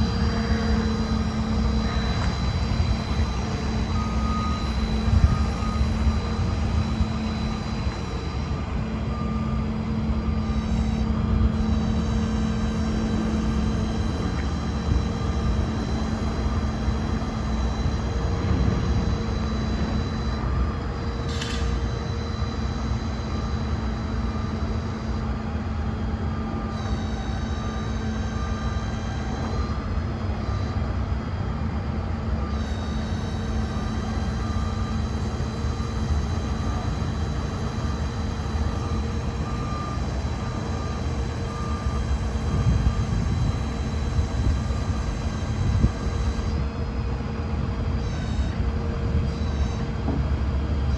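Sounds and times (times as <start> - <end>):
high whine: 0.0 - 50.9
truck engine hum: 0.0 - 50.9.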